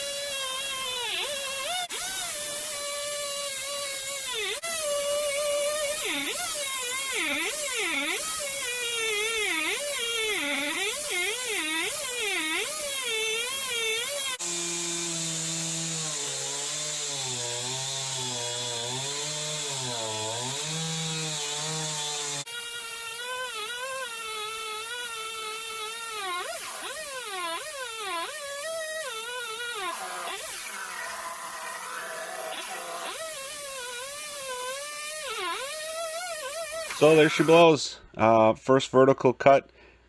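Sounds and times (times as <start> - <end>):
chainsaw cutting wood: 0.0 - 37.7.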